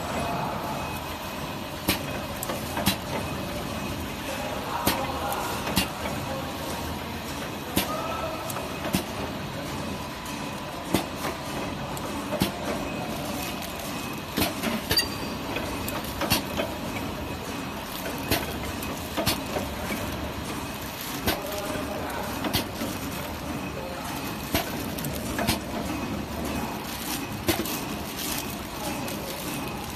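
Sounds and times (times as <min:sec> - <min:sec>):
packing machine running: 0:00.0 - 0:29.9.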